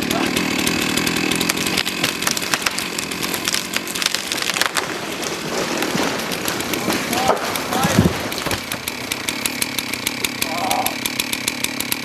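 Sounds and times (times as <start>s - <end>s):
chainsaw cutting wood: 0.0s - 12.0s
sharp wood crackles: 0.0s - 12.0s.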